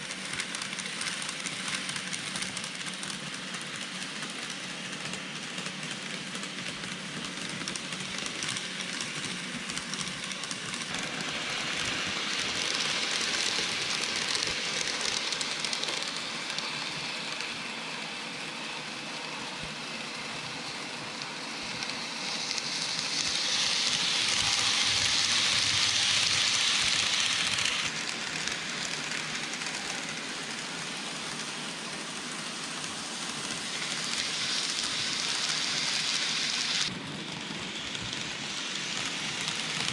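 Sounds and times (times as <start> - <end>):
model trains rumbling on track: 0.0 - 39.9.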